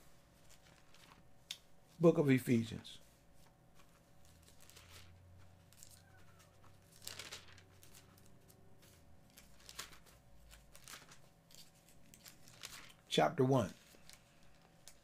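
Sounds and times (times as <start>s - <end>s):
low steady hum: 0.0s - 15.0s
thin pages rustling: 0.3s - 1.4s, 3.0s - 13.1s, 13.7s - 15.0s.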